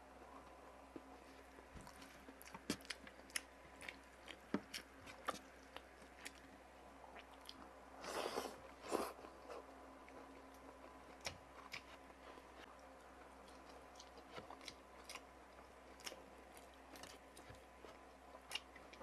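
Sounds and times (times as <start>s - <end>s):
wet chewing and crunching: 1.0s - 7.7s, 9.0s - 19.0s.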